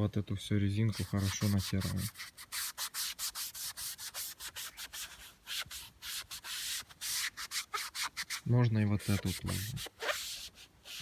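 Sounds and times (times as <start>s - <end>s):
sponge rubbing rubber seal: 0.9s - 11.0s.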